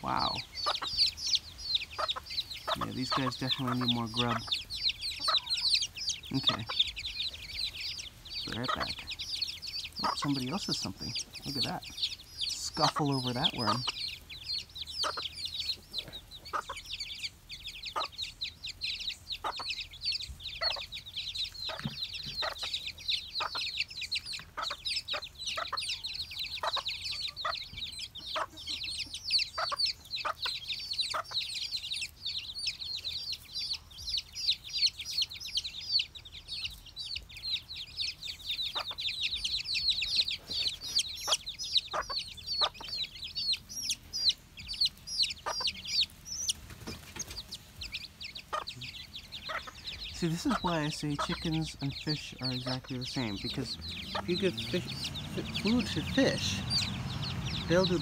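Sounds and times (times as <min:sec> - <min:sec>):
chicks peeping: 0:00.0 - 0:58.0
hen clucking: 0:00.0 - 0:58.0.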